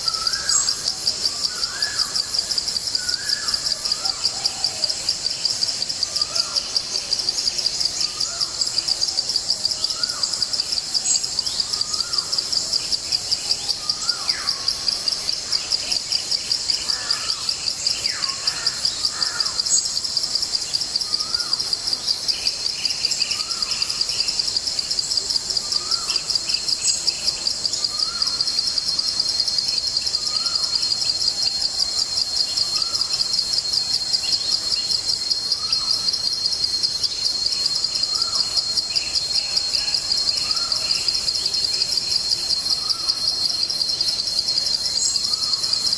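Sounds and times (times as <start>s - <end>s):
pulsing insect chorus: 0.0s - 45.9s.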